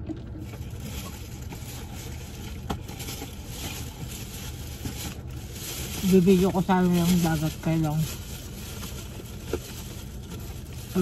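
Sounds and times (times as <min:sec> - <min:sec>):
background rumble and hiss: 0:00.0 - 0:11.0.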